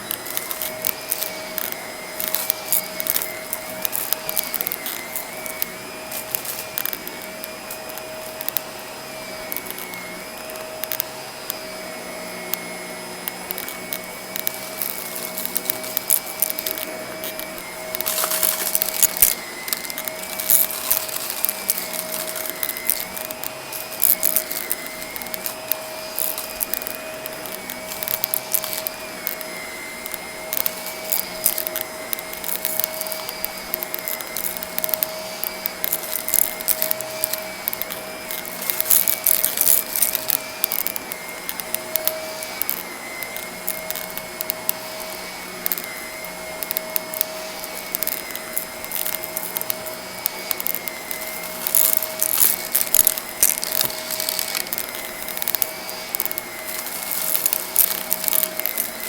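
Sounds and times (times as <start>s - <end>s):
debris crackling in vacuum: 0.0s - 59.0s
vacuum cleaner motor whine: 0.0s - 59.0s.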